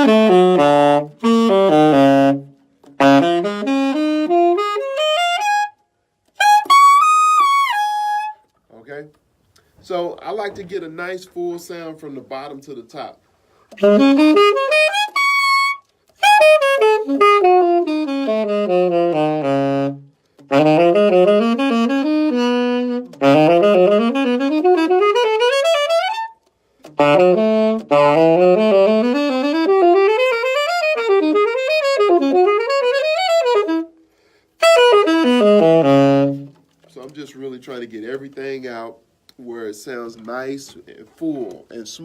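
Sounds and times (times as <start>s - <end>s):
alto saxophone arpeggios: 0.0s - 8.6s, 13.0s - 38.9s.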